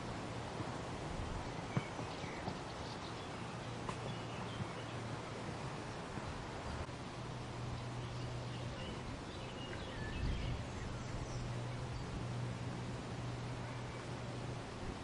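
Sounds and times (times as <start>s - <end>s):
leaves and branches rustling in wind: 0.0s - 15.0s
steady low hum: 0.0s - 15.0s.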